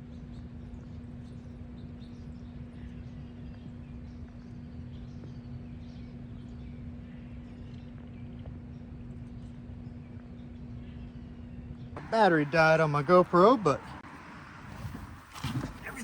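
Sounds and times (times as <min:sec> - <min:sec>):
small birds chirping: 0:00.0 - 0:14.0
constant hum: 0:00.0 - 0:16.0.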